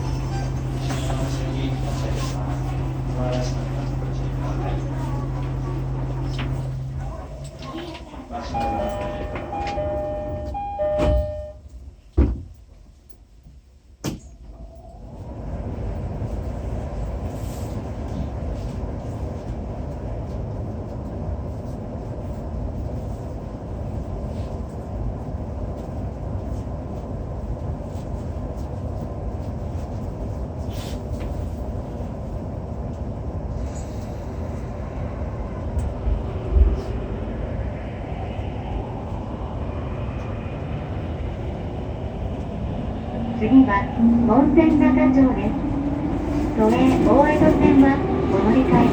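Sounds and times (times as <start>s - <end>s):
train running noise: 0.0s - 48.9s.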